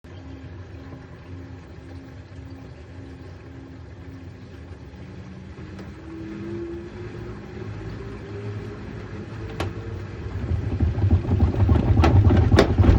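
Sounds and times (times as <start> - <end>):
washing machine spinning: 0.0 - 12.9.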